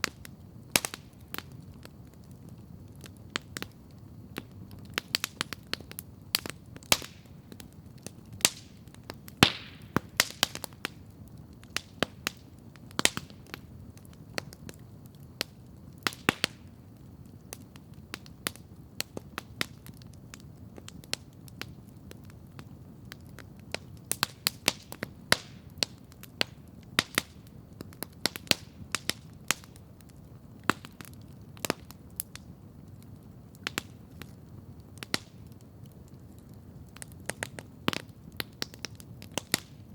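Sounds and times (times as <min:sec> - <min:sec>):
burning wood popping: 0:00.0 - 0:39.9
campfire crackling: 0:00.0 - 0:39.9
low background hiss: 0:00.0 - 0:39.9.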